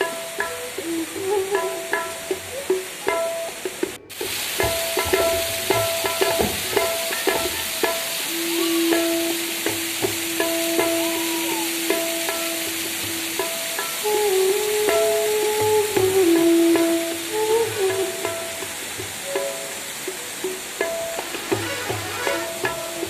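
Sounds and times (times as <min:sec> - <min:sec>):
instrumental background music: 0:00.0 - 0:23.0
waterfall rushing: 0:00.0 - 0:23.0.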